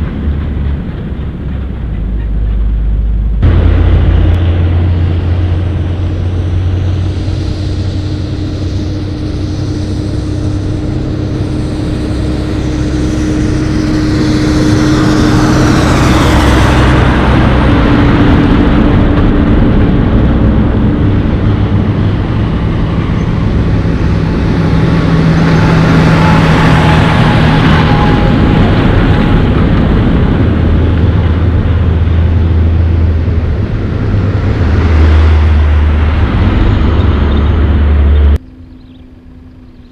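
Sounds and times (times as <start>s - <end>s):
diesel trucks driving past: 0.0s - 39.9s.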